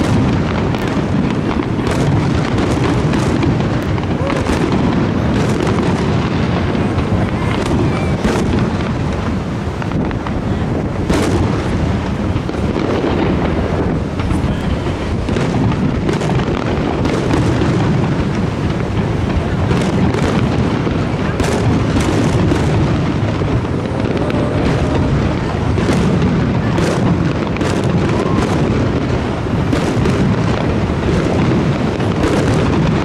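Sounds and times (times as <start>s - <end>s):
firework shells bursting: 0.0s - 33.0s
steady background noise: 0.0s - 33.0s.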